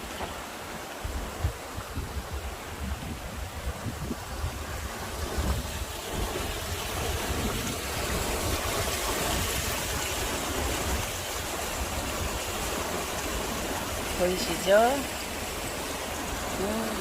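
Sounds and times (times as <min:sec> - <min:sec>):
stream water rushing: 0:00.0 - 0:17.0
wind rumble on microphone: 0:00.0 - 0:17.0.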